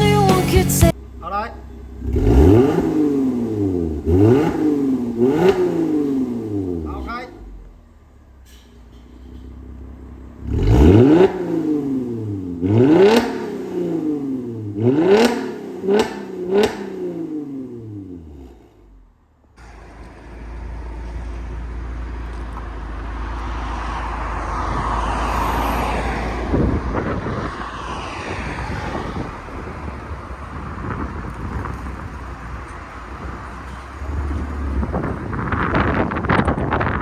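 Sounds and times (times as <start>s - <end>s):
road and tyre noise: 0.0s - 37.0s
car exhaust drone: 0.5s - 37.0s.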